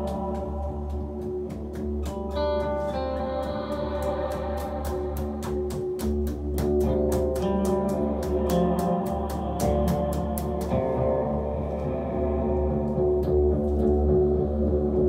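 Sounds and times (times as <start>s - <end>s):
held tones and low notes: 0.0s - 15.0s.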